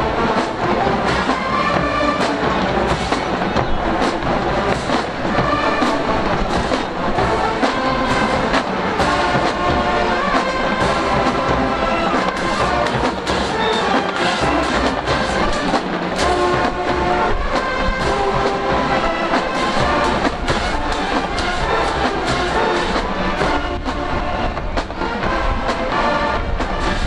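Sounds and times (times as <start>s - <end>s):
steady drum beat: 0.0s - 27.0s
trumpets and trombones: 0.0s - 27.0s.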